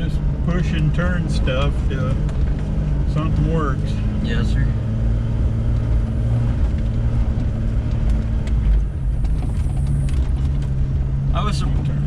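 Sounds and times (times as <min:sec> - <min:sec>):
vehicle engine at low revs: 0:00.0 - 0:12.0.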